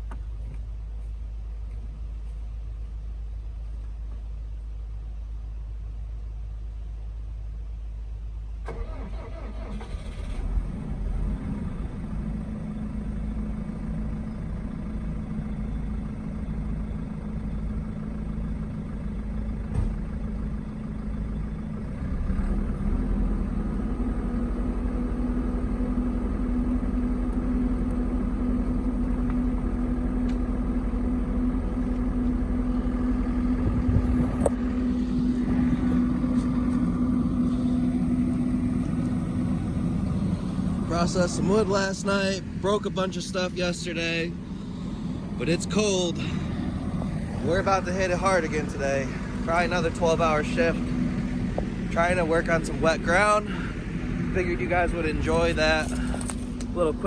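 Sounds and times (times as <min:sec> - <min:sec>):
diesel engine starting and idling: 0:08.2 - 0:57.0.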